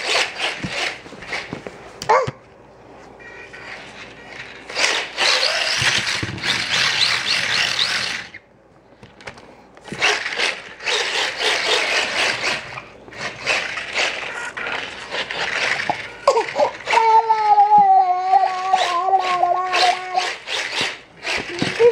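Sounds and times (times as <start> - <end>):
small electric motor whining: 0.0 - 1.5, 3.6 - 8.4, 9.9 - 17.6, 18.3 - 21.9.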